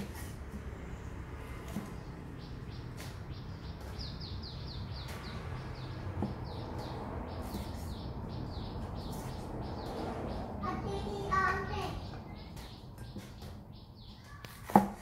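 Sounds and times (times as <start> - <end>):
small bird chirping: 0.9 - 14.7.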